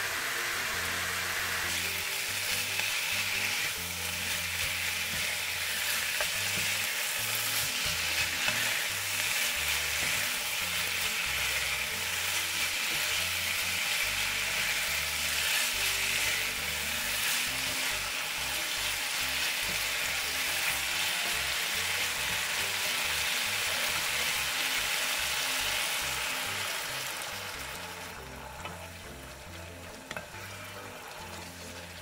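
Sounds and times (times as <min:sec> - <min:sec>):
food sizzling in frying pan: 0:00.0 - 0:32.0.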